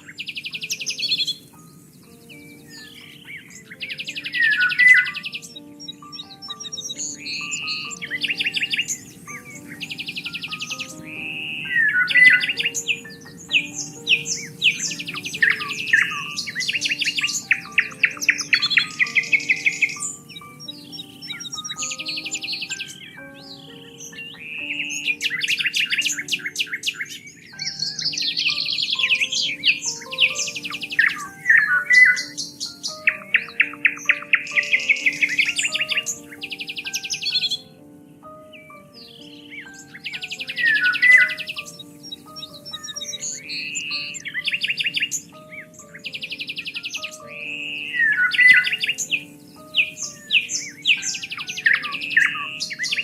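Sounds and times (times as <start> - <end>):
soft music of long held notes: 0.0 - 53.0
songbirds singing and chirping: 0.0 - 53.0.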